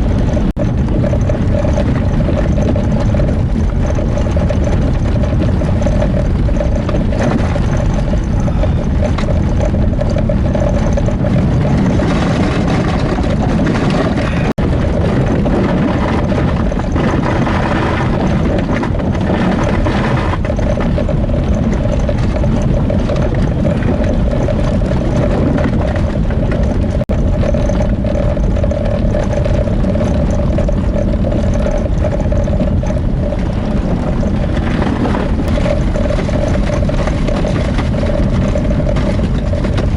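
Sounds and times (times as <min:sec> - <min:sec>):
constant hum: 0:00.0 - 0:39.9
vehicle engine and road rumble: 0:00.0 - 0:39.9.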